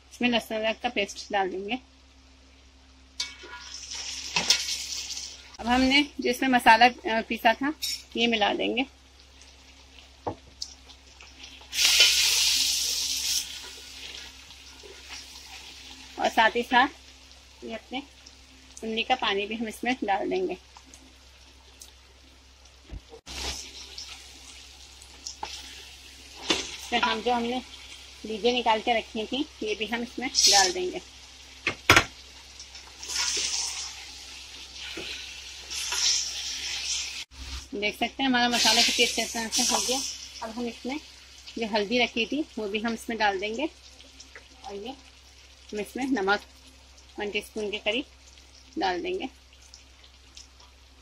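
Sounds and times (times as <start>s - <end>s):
onions sizzling in hot oil: 3.2s - 7.1s, 7.8s - 51.0s.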